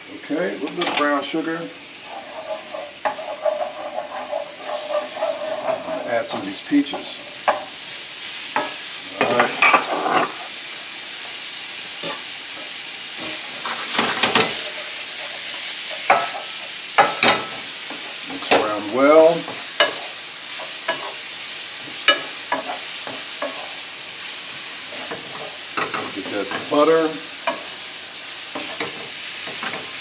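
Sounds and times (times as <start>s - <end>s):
fruit sizzling in a skillet: 0.0s - 30.0s
wooden spoon scraping a pan: 0.4s - 10.6s, 13.2s - 30.0s.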